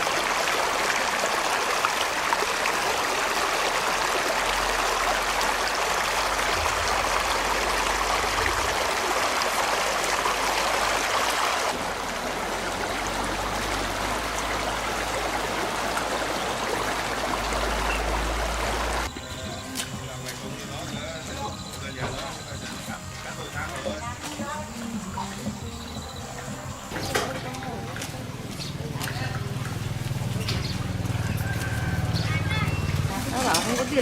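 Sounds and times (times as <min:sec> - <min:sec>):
stream water running: 0:00.0 - 0:34.0.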